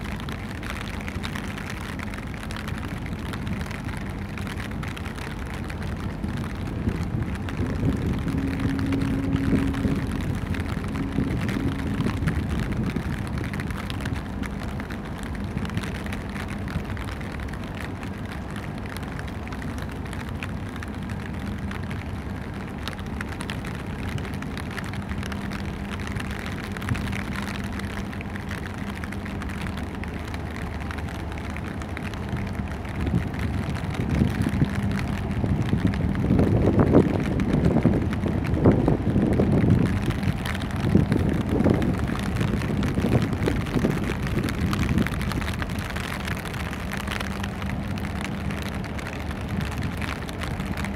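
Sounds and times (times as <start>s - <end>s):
large ship engine drone: 0.0s - 50.9s
wind rumbling on microphone: 0.0s - 50.9s.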